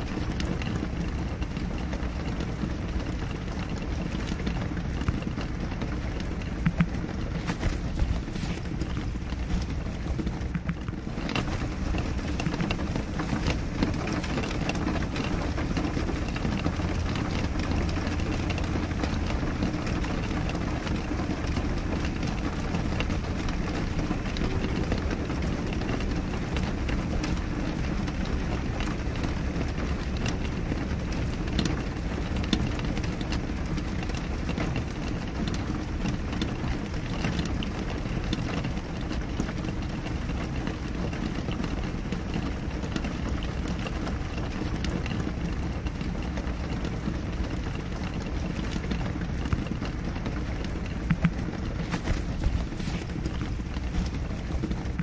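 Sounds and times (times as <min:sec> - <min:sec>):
rain on a window pane: 0:00.0 - 0:55.0
raindrops ticking on glass: 0:00.0 - 0:55.0.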